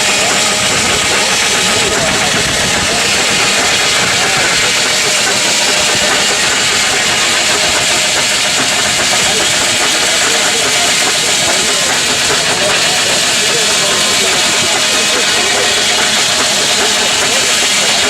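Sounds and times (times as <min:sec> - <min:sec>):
machinery hissing: 0:00.0 - 0:18.0.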